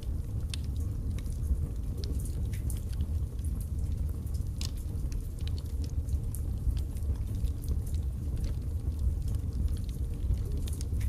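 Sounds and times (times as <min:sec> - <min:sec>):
fire flames rumbling: 0:00.0 - 0:11.0
logs crackling and popping: 0:00.0 - 0:11.0.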